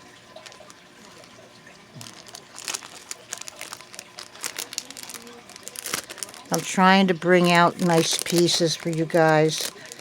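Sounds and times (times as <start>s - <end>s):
plastic packaging crinkling: 0.1s - 10.0s.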